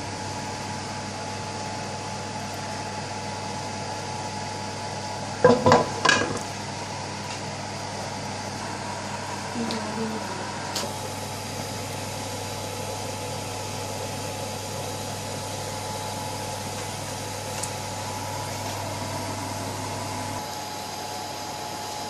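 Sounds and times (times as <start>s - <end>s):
steady mechanical hum with hiss: 0.0s - 22.0s.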